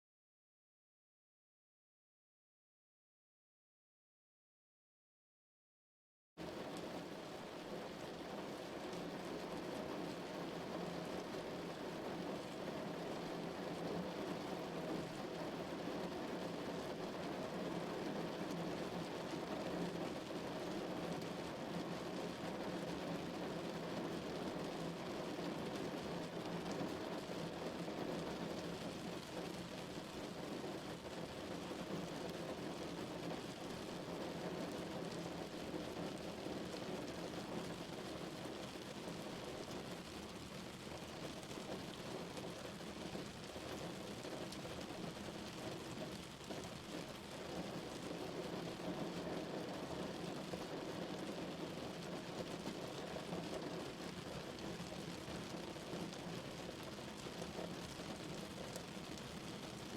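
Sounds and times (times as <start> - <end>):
heavy rain falling: 6.4 - 59.9.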